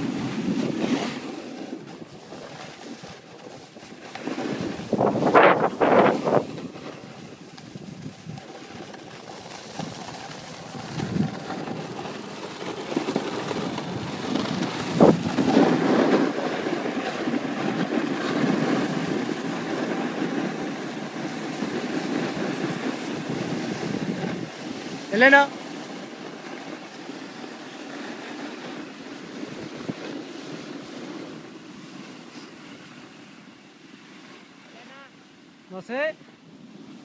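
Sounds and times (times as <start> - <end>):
wind on microphone: 0.0 - 33.2
skis scraping packed snow: 0.0 - 37.0.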